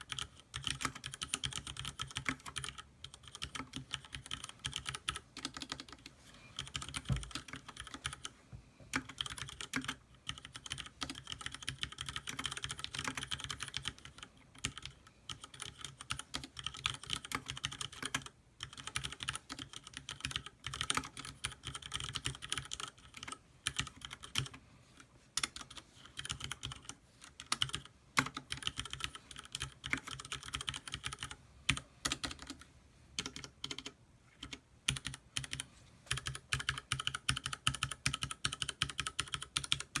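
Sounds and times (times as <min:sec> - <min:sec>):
mechanical keyboard typing: 0:00.0 - 0:24.6, 0:25.4 - 0:40.0.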